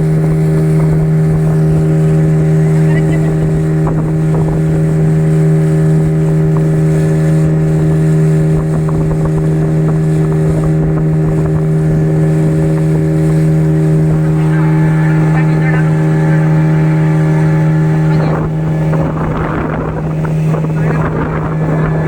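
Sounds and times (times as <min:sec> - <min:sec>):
speedboat engine running: 0:00.0 - 0:22.0.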